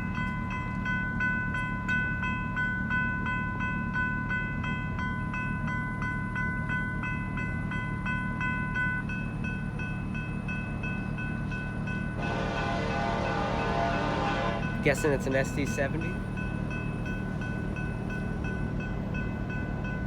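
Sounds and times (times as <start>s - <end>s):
low rumble of freight train: 0.0s - 20.0s
railroad crossing bell ringing: 0.0s - 20.0s
train wheel and rail noise: 0.0s - 20.0s.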